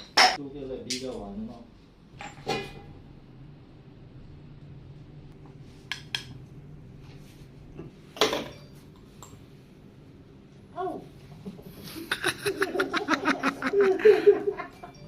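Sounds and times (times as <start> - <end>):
low steady hum: 0.2 - 15.0.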